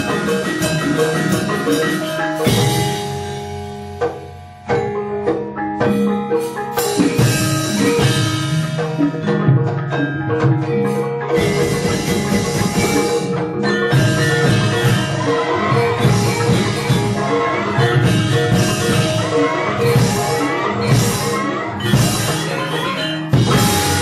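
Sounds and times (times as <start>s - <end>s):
drum strokes: 0.0s - 24.0s
gamelan metallophones ringing: 0.0s - 24.0s.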